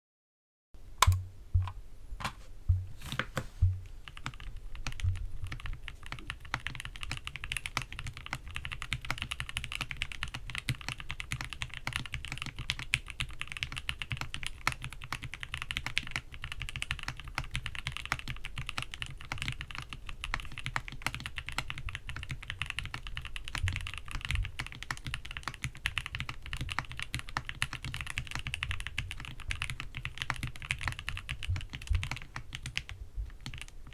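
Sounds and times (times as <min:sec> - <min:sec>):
mechanical keyboard typing: 0:04.0 - 0:33.9.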